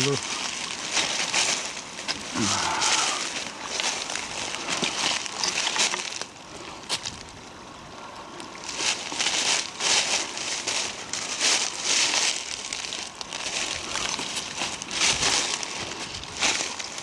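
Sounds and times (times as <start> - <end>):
brush and twigs rustling: 0.0 - 17.0.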